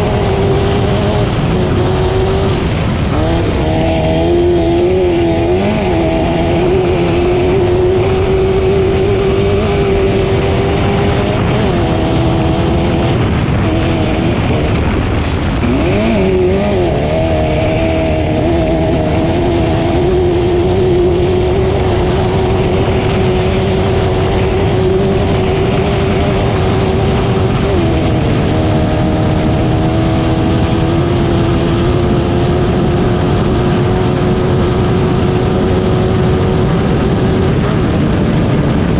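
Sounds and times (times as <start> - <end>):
race car engine revving high: 0.0 - 38.9.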